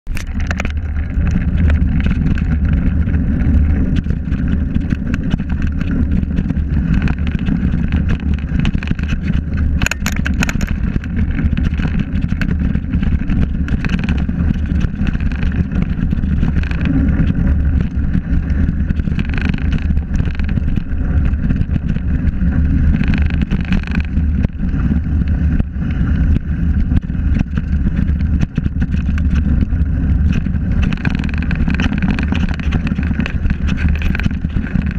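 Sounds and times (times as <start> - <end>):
bike tyre rumble: 0.0 - 34.9
wind buffeting microphone: 0.0 - 34.9
brief clatter: 0.1 - 24.6, 26.9 - 34.9
bike frame rattle: 0.1 - 34.9.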